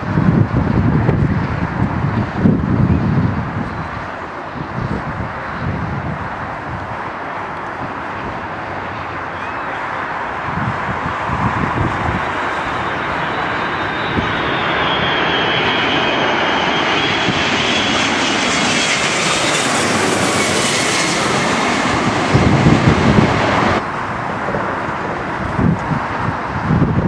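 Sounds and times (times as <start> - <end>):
wind buffeting microphone: 0.0 - 9.2, 10.2 - 27.0
airliner engine roar: 0.0 - 27.0.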